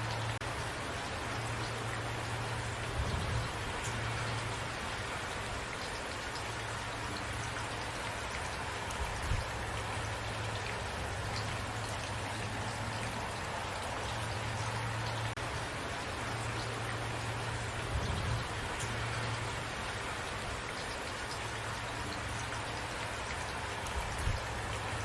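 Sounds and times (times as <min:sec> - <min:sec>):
raindrops ticking: 0:00.0 - 0:25.0
steady rain hiss: 0:00.0 - 0:25.0.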